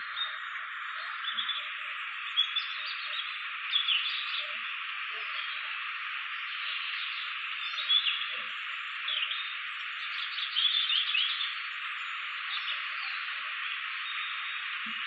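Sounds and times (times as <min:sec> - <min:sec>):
chorus of calling animals: 0:00.0 - 0:15.0.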